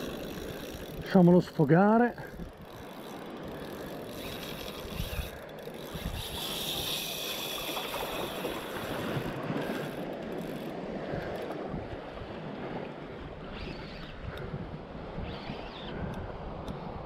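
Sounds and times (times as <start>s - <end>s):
wind on microphone: 2.2s - 17.0s.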